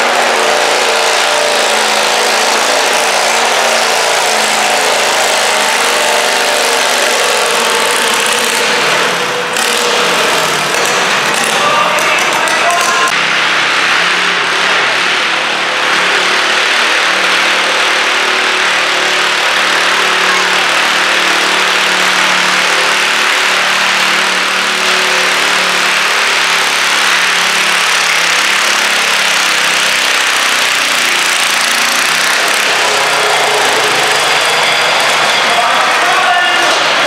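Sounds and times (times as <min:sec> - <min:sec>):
tractor engine running hard: 0:00.0 - 0:37.0.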